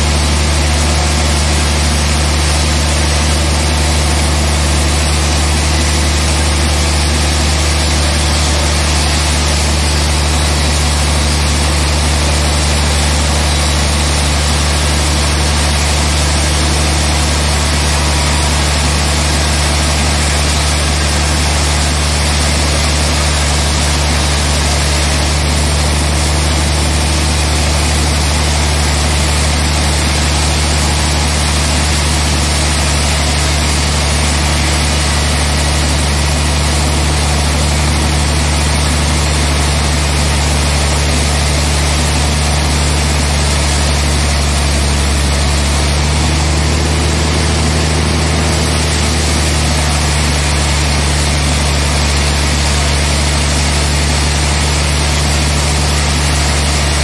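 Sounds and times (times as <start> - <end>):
band sawmill sawing log: 0.0 - 57.0.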